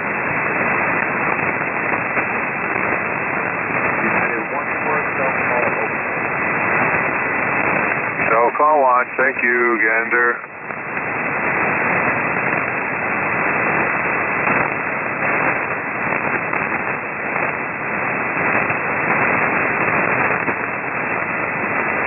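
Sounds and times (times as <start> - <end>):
radio receiver hiss: 0.0 - 22.0
static crackles: 0.0 - 22.0.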